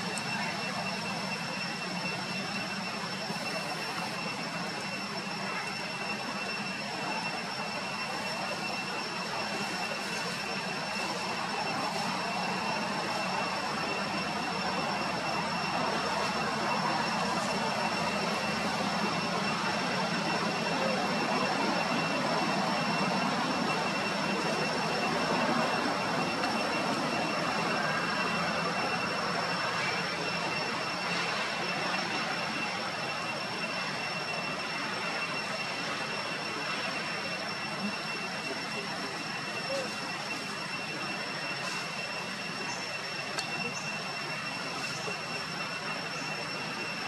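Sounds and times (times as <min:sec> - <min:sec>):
high-pitched whine: 0:00.0 - 0:47.0.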